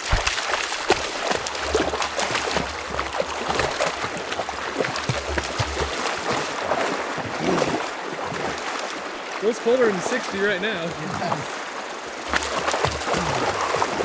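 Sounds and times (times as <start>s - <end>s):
shallow river running: 0.0s - 14.0s
splashing of wading: 0.0s - 14.0s.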